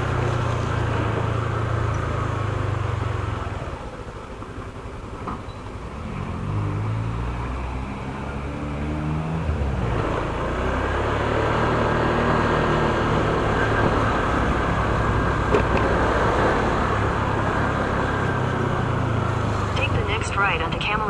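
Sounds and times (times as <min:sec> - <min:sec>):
motorcycle engine running: 0:00.0 - 0:08.7, 0:09.5 - 0:21.0
wind and road noise: 0:00.0 - 0:21.0.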